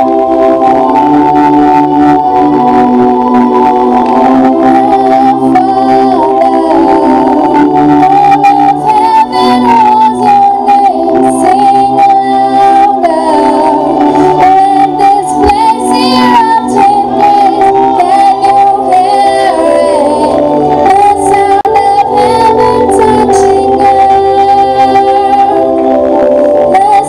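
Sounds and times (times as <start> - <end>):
instrumental accompaniment: 0.0 - 27.0
girl singing into a microphone: 4.4 - 27.0.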